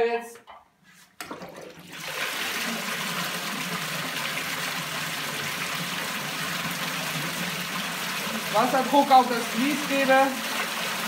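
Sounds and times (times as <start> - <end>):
water gushing and splashing: 1.2 - 11.0.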